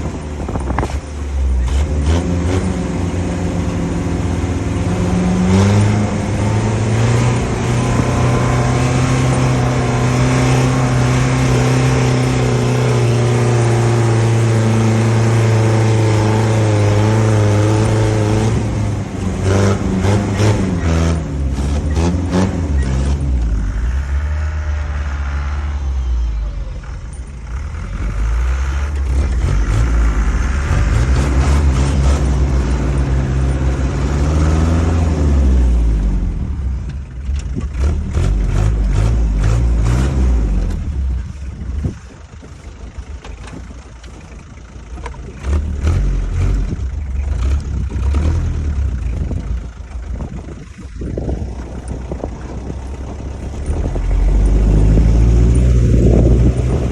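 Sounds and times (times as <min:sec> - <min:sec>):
car engine revving: 0:00.0 - 0:42.4, 0:43.5 - 0:56.9.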